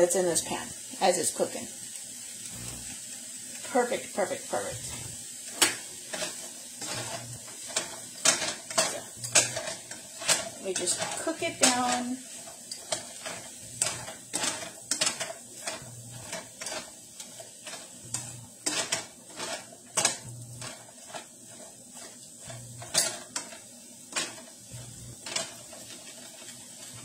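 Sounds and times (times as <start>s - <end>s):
utensil scraping frying pan: 0.0s - 27.0s.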